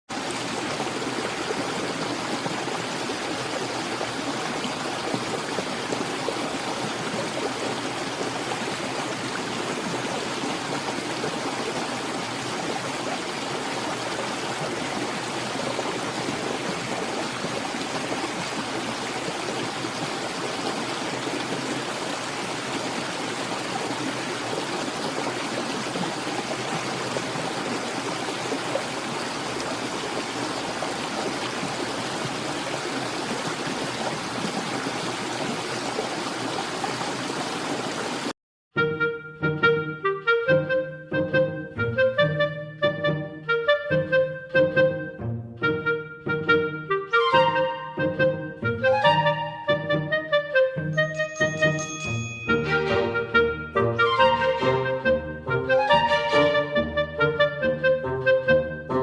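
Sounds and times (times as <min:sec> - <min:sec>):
stream flowing: 0:00.1 - 0:38.4, 0:45.7 - 0:57.8.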